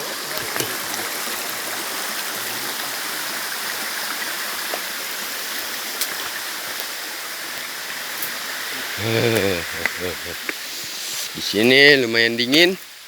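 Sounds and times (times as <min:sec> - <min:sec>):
river water flowing: 0:00.0 - 0:12.2.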